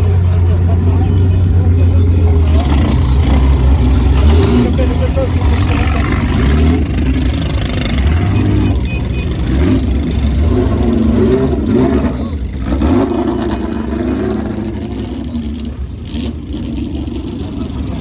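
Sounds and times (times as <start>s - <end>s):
racing car engines at low speed: 0.0s - 18.0s.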